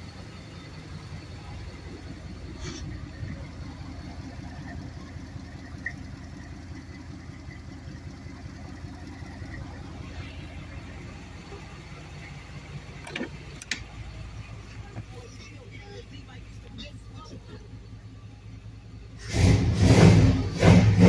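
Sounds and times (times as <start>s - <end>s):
pickup engine idling: 0.0s - 21.0s.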